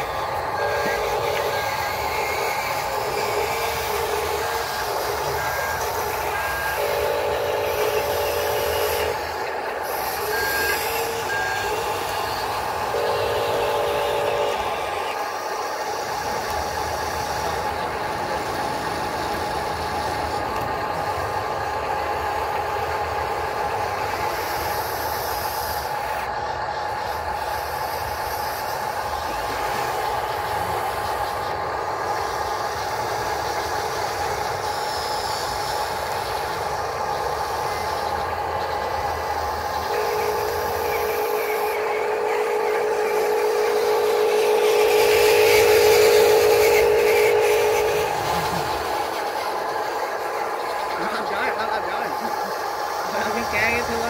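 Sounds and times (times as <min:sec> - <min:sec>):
electric motors whining: 0:00.0 - 0:54.0
lower motor whine: 0:00.0 - 0:54.0.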